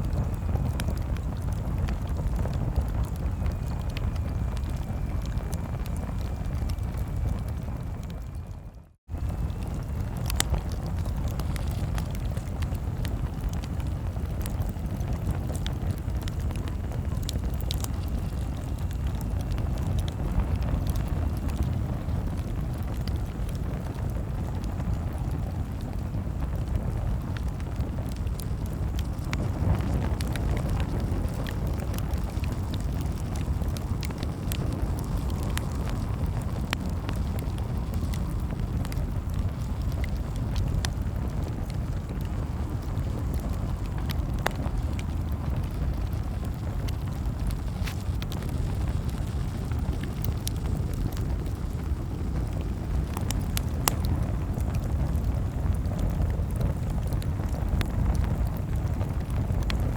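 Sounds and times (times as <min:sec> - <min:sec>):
low rumble: 0:00.0 - 0:58.3
campfire crackling: 0:00.0 - 0:59.9.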